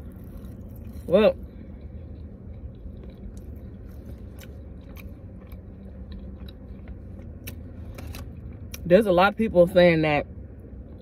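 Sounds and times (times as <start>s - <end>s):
person chewing with mouth closed: 0.0s - 8.8s
steady low hum: 0.0s - 11.0s.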